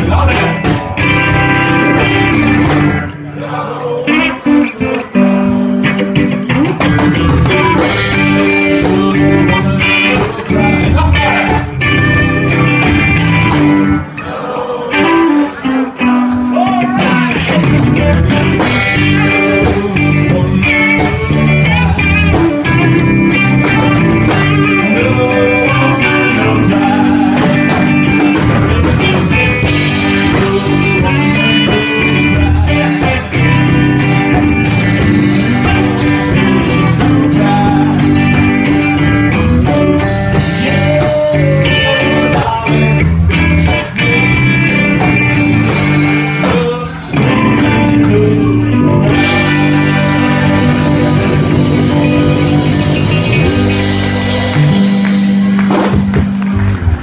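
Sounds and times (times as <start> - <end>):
guitar band music: 0.0 - 57.0.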